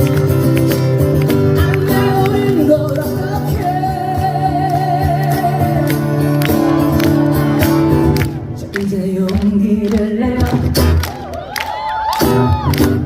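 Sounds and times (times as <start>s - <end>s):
live band song with guitar: 0.0s - 13.0s.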